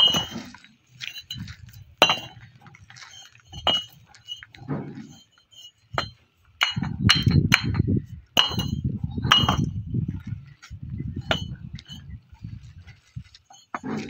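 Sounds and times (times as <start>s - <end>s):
bricks clinking: 0.0s - 10.6s, 11.2s - 14.0s.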